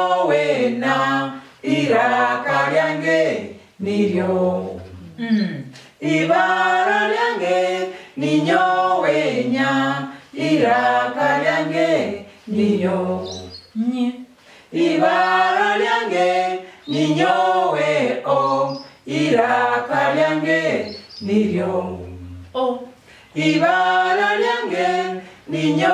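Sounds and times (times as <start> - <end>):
group singing unaccompanied: 0.0 - 13.8, 14.6 - 25.9.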